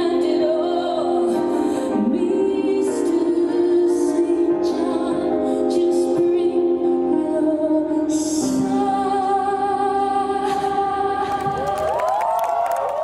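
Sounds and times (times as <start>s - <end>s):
slow soft music: 0.0s - 13.0s.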